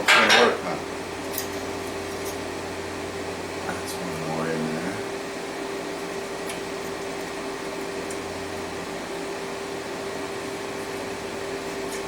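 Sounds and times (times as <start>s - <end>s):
fan machine hum and hiss: 0.0s - 12.0s.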